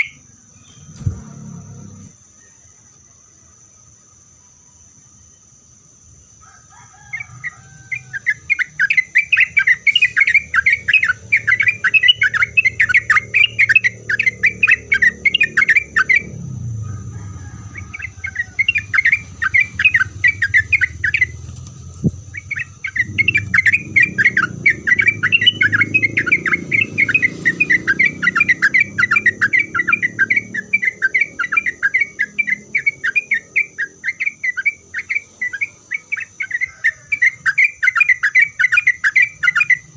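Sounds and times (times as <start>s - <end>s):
bird chattering song: 0.0s - 2.6s, 7.1s - 39.9s.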